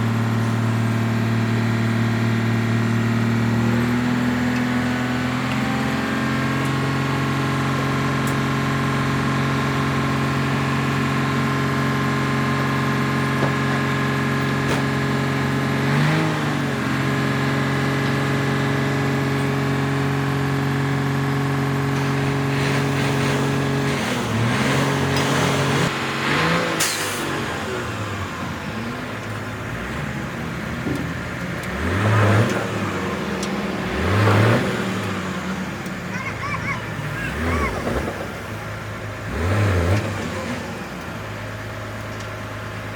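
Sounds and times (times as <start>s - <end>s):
diesel engine idling: 0.0s - 26.6s, 27.3s - 42.9s
diesel engine revving: 0.0s - 42.9s.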